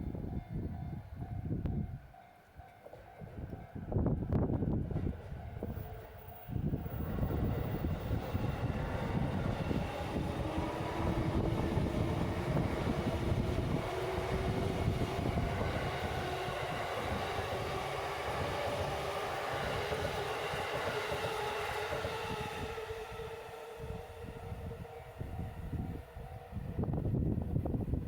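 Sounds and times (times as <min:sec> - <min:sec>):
train wheels rumbling and clattering: 0:02.7 - 0:28.0
train motor whine: 0:03.4 - 0:27.7.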